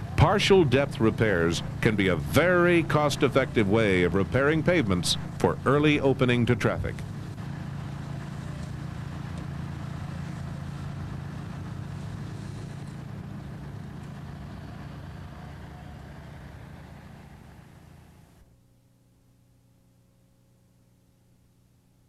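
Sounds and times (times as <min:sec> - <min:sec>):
truck driving by: 0:00.0 - 0:18.4
distant road traffic rumble: 0:00.0 - 0:18.5.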